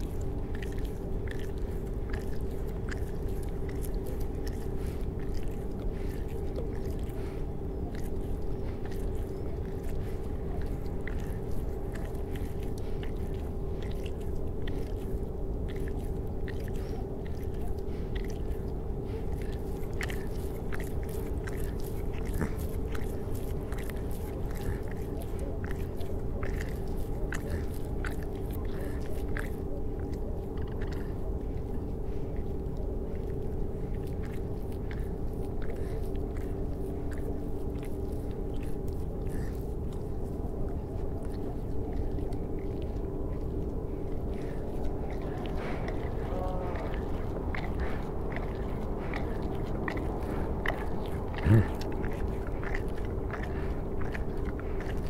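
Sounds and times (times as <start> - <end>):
two-tone droning hum: 0.0 - 55.0.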